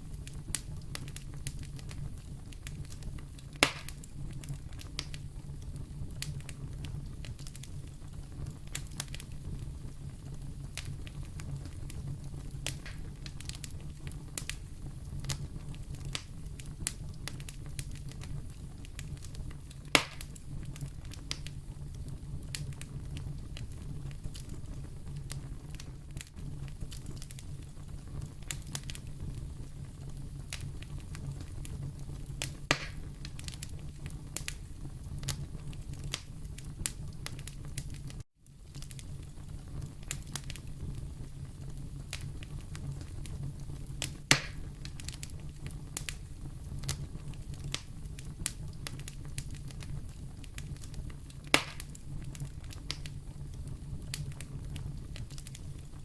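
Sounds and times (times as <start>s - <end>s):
wood fire crackling: 0.0s - 56.0s
fire pops: 0.1s - 56.0s.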